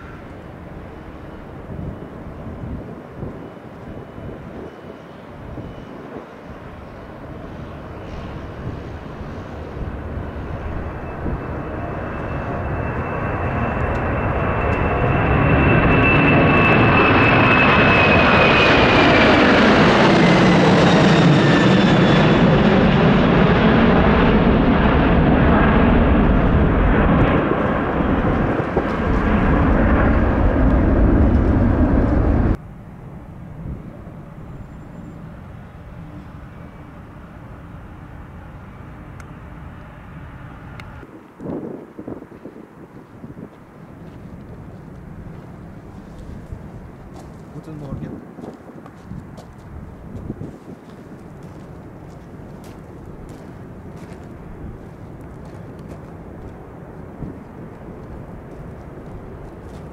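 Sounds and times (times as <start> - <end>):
jet engines at takeoff power: 0.0 - 59.9.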